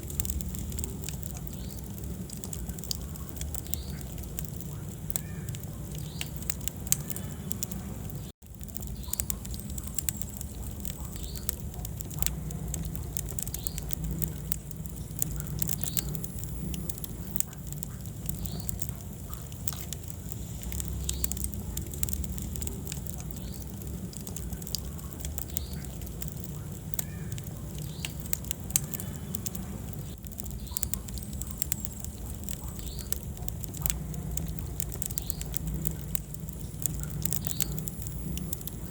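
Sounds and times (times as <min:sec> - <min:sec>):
fire flames rumbling: 0:00.0 - 0:38.9
logs crackling and popping: 0:00.0 - 0:38.9.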